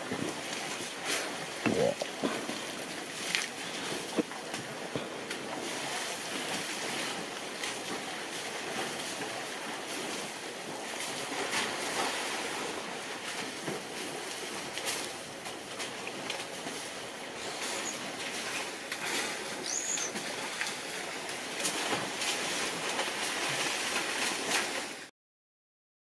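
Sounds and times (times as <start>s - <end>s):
water splashing and sloshing: 0.0s - 25.1s.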